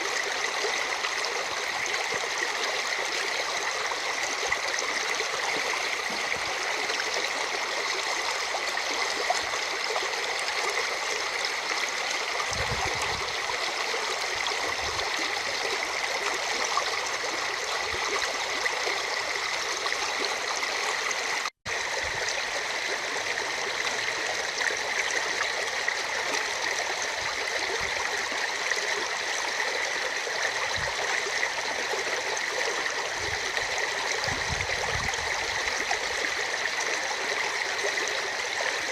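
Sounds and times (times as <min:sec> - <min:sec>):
stream running over its bed: 0:00.0 - 0:38.9.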